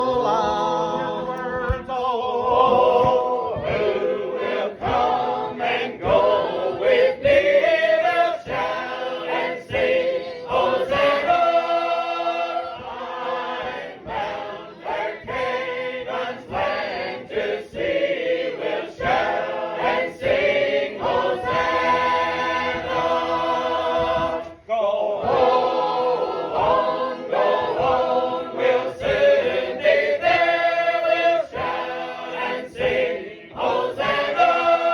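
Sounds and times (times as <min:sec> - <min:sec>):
group singing a hymn unaccompanied: 0:00.0 - 0:34.9.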